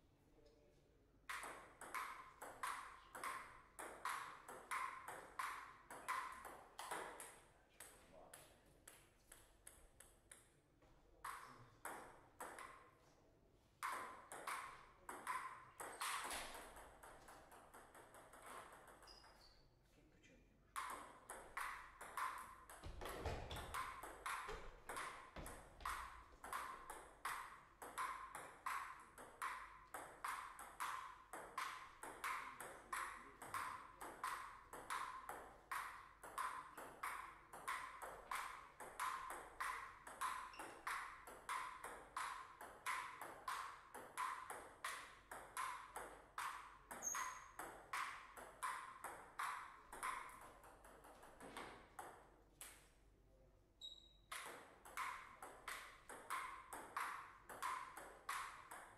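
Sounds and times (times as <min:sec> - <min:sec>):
table tennis ball clicking: 0:01.3 - 0:07.4, 0:13.8 - 0:19.2, 0:20.8 - 0:52.8, 0:54.2 - 0:58.9.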